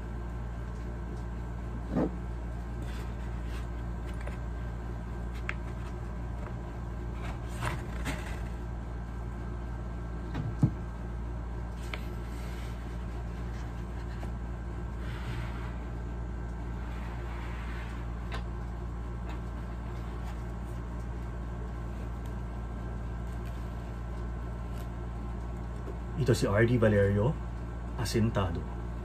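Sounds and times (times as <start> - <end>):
low hum: 0.0 - 26.8.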